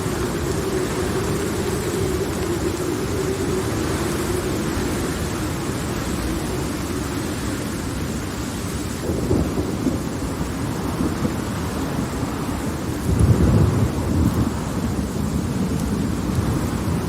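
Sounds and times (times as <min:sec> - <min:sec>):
low rumbling thunder: 0:00.0 - 0:17.0
steady rain: 0:00.0 - 0:17.0.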